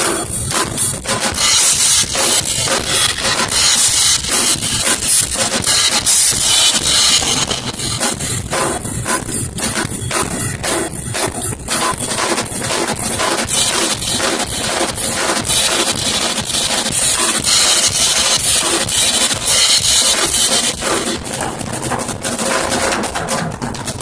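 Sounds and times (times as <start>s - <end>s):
cymbals washing: 0.0s - 23.1s
snare and bass drum hits: 0.0s - 24.0s.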